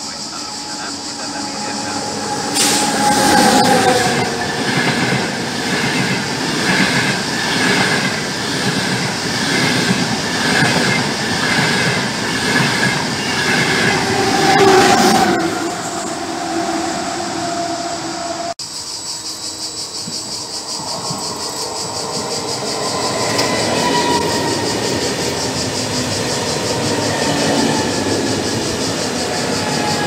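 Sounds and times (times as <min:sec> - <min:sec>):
train wheels rushing on rail: 0:00.0 - 0:18.5, 0:19.4 - 0:30.0.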